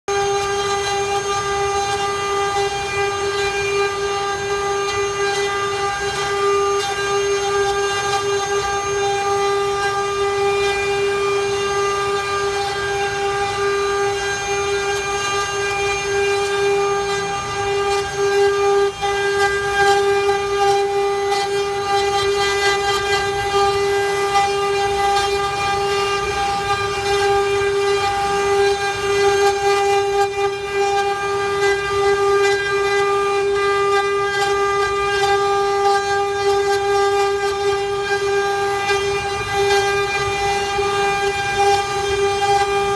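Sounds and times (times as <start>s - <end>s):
cnc router spindle whining: 0.1s - 42.9s
router bit scratching wood: 0.1s - 42.9s.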